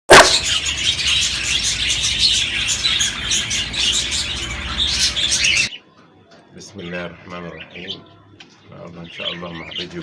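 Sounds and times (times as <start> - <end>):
budgerigars chattering and chirping: 0.1 - 5.8, 6.7 - 10.0.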